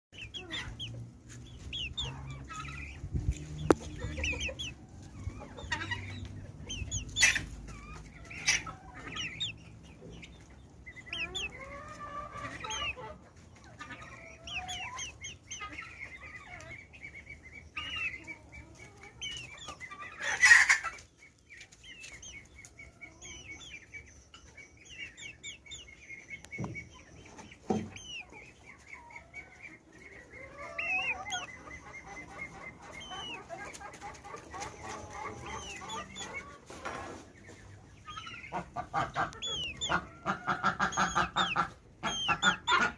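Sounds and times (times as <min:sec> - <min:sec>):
chicks peeping: 0:00.1 - 0:42.9
chickens clucking: 0:00.2 - 0:42.9.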